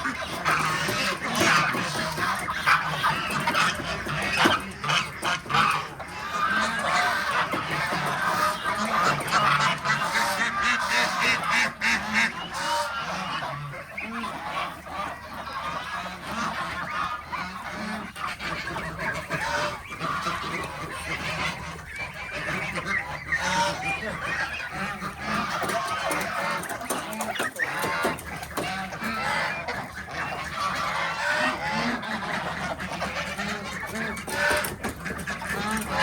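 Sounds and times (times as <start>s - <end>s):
geese honking: 0.0s - 36.0s.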